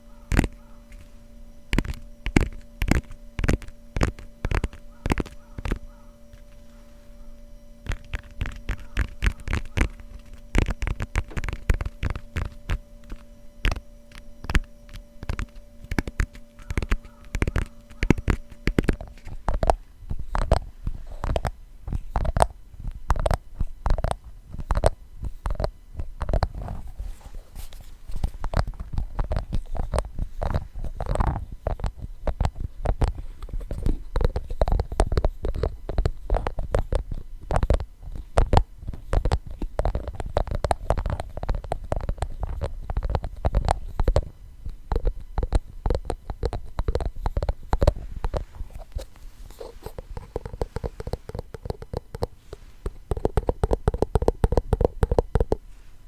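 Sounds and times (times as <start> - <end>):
faint steady hum: 0.0 - 56.0
fingertips tapping on book cover: 0.1 - 55.9.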